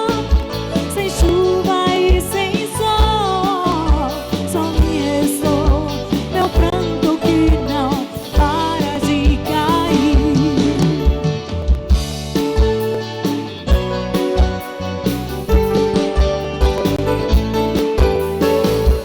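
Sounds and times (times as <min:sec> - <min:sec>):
bass: 0:00.0 - 0:19.0
melodic lead line: 0:00.0 - 0:19.0.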